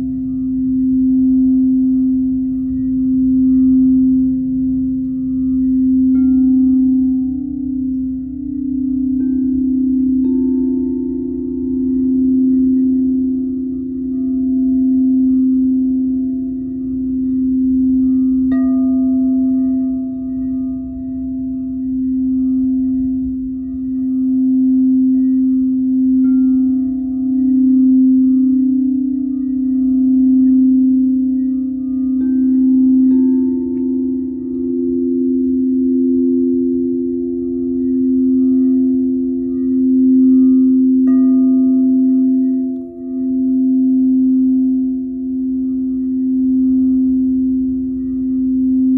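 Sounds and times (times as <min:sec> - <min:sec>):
singing bowl struck: 0:00.0 - 0:48.9
singing bowls droning: 0:00.0 - 0:48.9.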